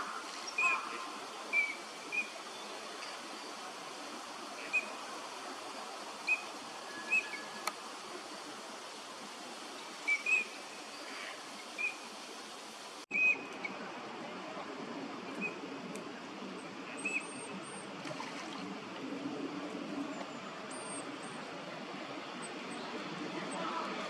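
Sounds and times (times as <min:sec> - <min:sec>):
background noise: 0:00.0 - 0:24.0.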